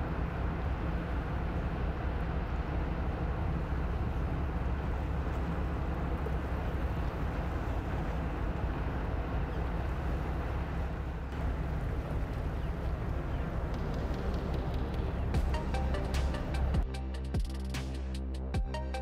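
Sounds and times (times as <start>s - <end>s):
boat diesel engines droning: 0.0s - 19.0s.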